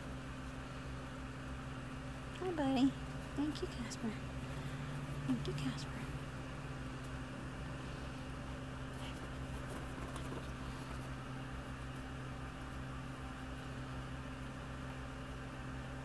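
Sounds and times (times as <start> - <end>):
low fan hum: 0.0 - 16.0.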